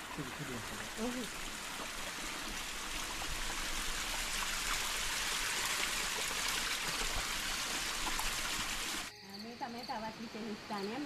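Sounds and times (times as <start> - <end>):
stream water flowing: 0.0 - 9.1.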